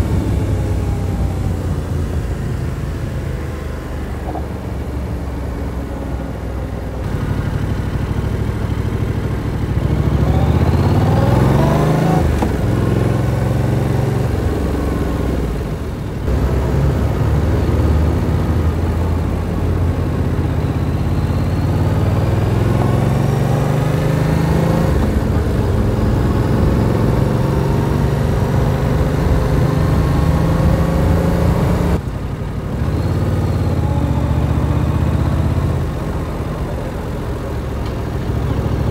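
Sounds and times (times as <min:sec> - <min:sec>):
motorcycle engine revving: 0:00.0 - 0:32.0, 0:32.6 - 0:38.9.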